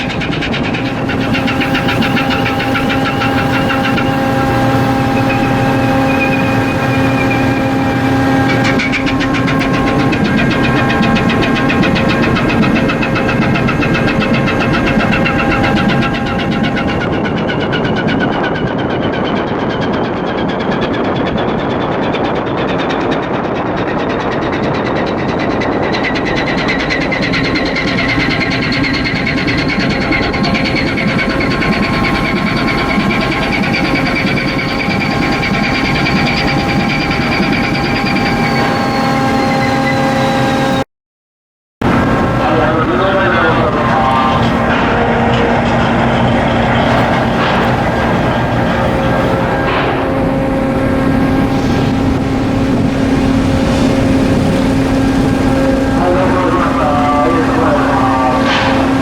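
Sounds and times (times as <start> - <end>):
diesel engine humming: 0.0 - 18.9, 25.6 - 40.8, 41.8 - 59.0
rapid mechanical ticking: 0.0 - 40.5, 41.8 - 59.0
steady whine: 0.0 - 40.8, 41.8 - 59.0.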